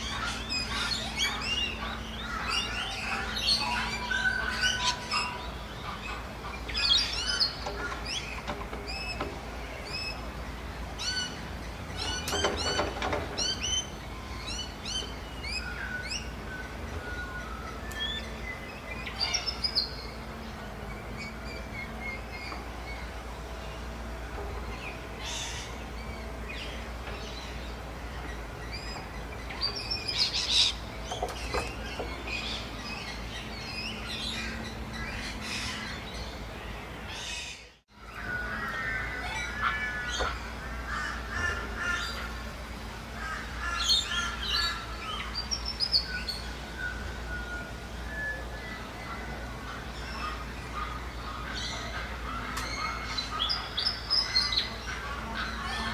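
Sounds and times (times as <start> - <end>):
birds calling and chirping: 0.0 - 55.9.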